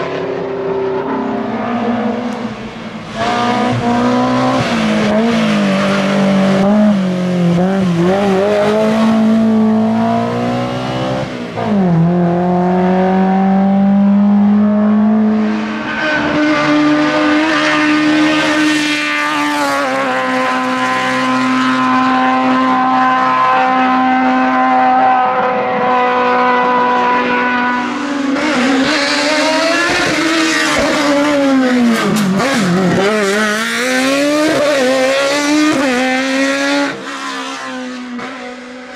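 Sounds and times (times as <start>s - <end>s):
racing car engine revving: 0.0s - 38.9s.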